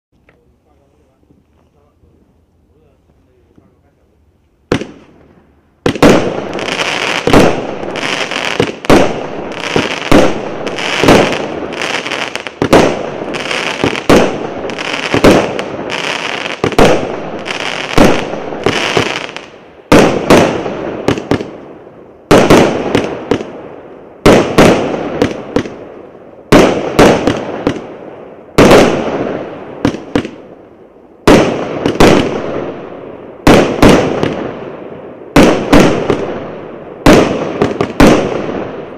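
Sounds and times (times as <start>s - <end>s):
firework bangs: 4.6s - 30.6s, 31.2s - 38.9s.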